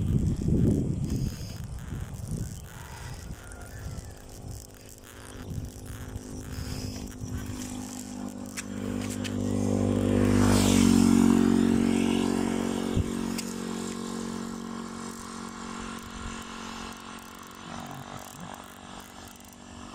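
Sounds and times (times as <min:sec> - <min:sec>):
motorcycle passing by: 0:00.0 - 0:19.9.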